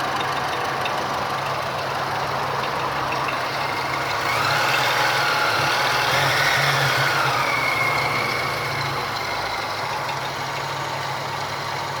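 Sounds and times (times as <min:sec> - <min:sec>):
suv engine idling: 0:00.0 - 0:12.0.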